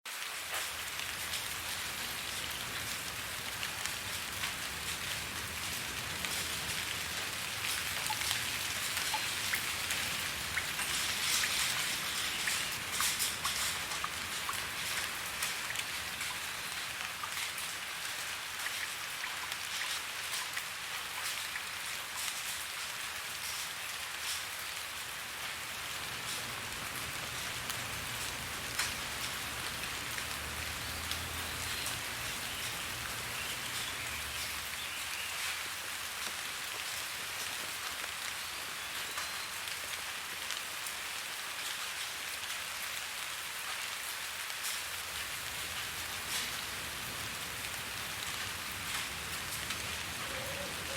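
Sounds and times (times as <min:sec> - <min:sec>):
steady rain: 0:00.0 - 0:50.9
raindrops ticking on hard surface: 0:00.1 - 0:50.9.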